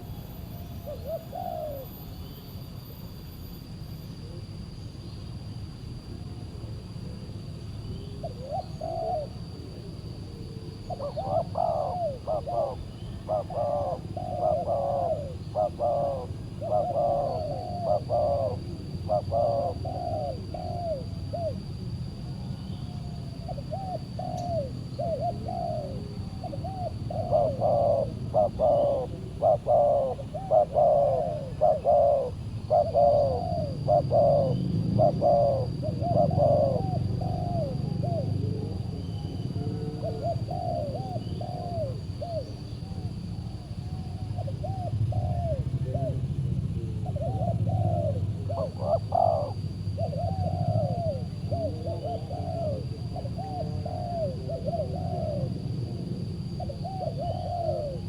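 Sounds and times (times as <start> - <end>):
doves cooing: 0.0 - 2.0, 8.0 - 58.0.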